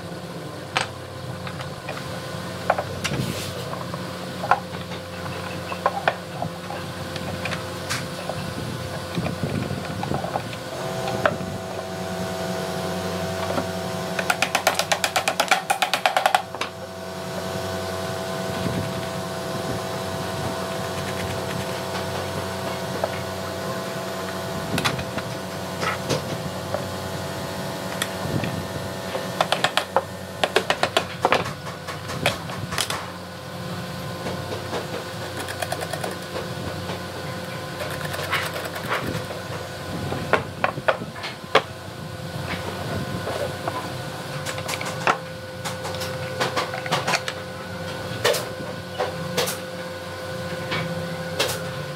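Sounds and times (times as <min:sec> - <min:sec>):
steady hum: 0:00.0 - 0:51.9.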